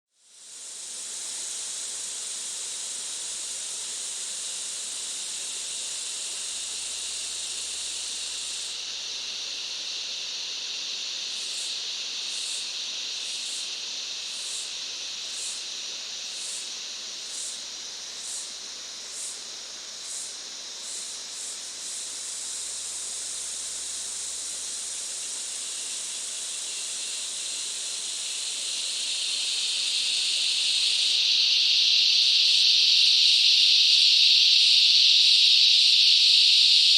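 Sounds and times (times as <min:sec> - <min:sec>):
insect chorus buzzing drone: 0:00.1 - 0:36.9
pulsing insect call: 0:00.3 - 0:36.9.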